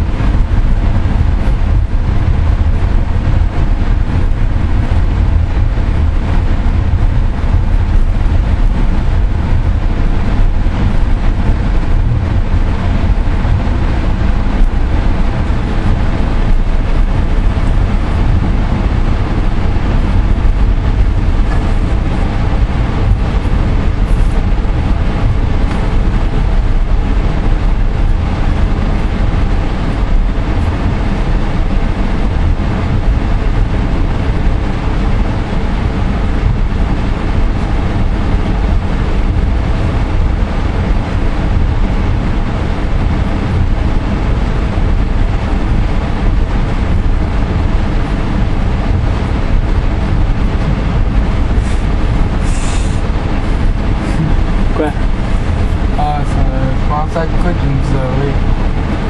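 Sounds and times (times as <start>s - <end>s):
faint hum: 0.0s - 59.0s.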